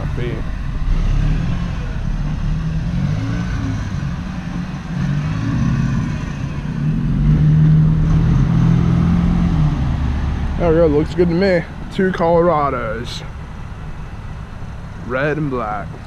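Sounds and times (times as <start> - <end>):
vehicle engine running at low revs: 0.0 - 16.0.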